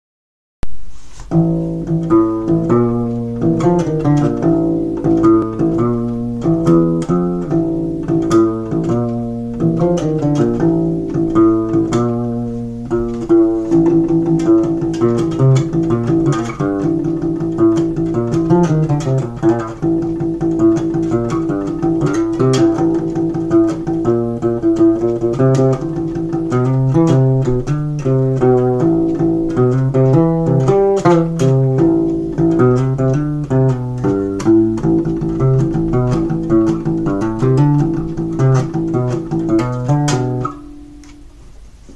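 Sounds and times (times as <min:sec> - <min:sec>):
plucked acoustic bass guitar: 0:00.6 - 0:41.9.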